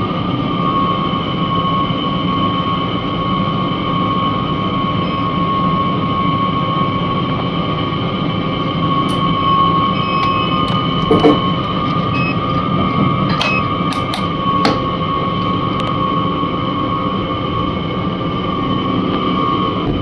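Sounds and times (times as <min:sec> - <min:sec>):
machinery drone with high whine: 0:00.0 - 0:20.0.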